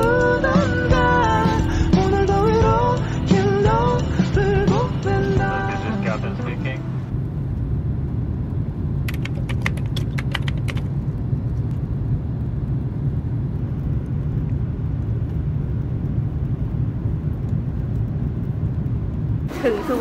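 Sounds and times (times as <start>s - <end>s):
jet engine and airflow rumble: 0.0s - 20.0s.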